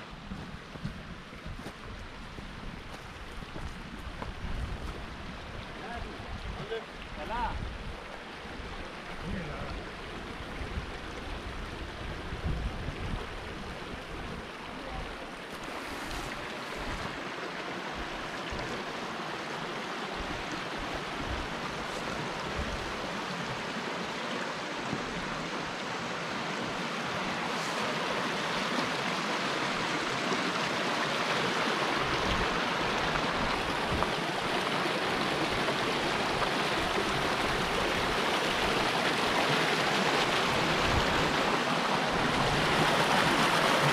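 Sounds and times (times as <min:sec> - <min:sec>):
creek running over rocks: 0:00.0 - 0:43.9.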